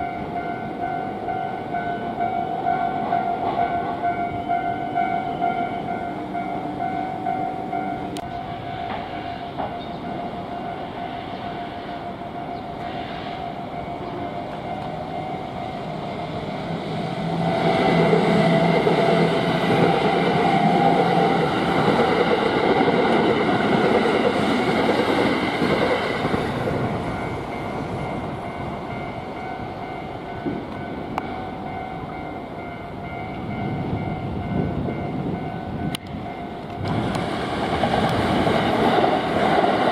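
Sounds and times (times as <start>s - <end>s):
electric train passing: 0.0s - 39.9s.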